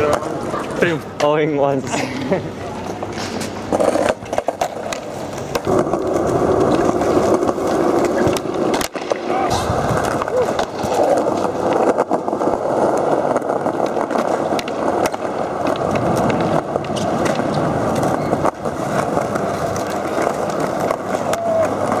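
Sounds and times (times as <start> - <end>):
skateboard clacks: 0.0 - 22.0
skateboard wheels rolling on pavement: 0.0 - 22.0.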